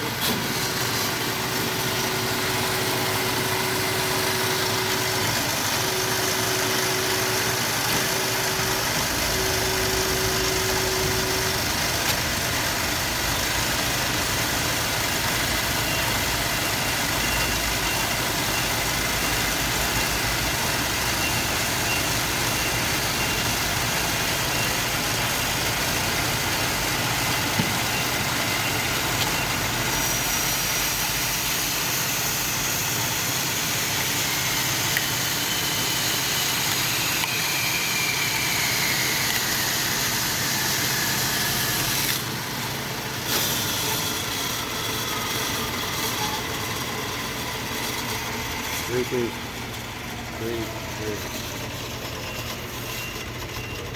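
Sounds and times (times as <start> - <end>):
band saw running: 0.0 - 53.9.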